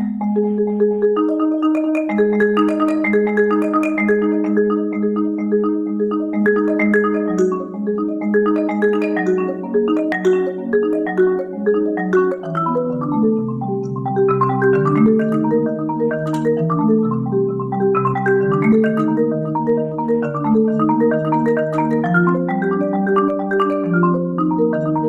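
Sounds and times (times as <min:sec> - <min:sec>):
solo marimba playing: 0:00.0 - 0:25.0.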